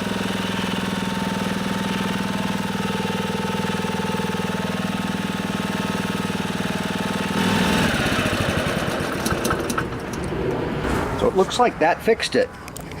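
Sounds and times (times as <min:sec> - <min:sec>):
lawn mower engine running: 0:00.0 - 0:10.8.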